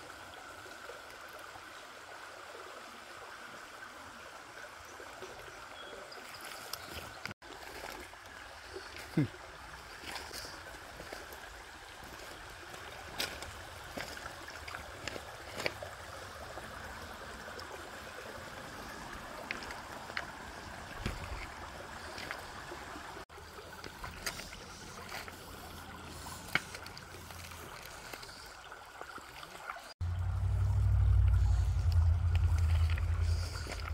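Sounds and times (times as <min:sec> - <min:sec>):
creek trickling over stones: 0:00.0 - 0:33.9.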